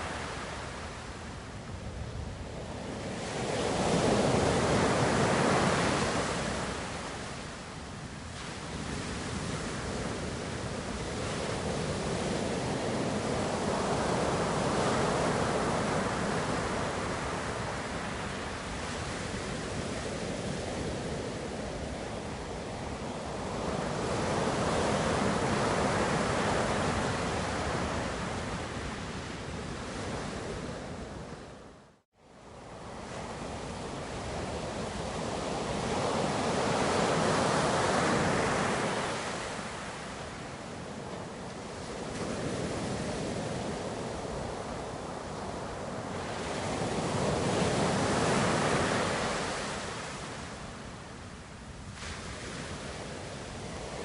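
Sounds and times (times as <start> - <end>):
ocean waves washing: 0.0 - 31.6, 32.4 - 54.0.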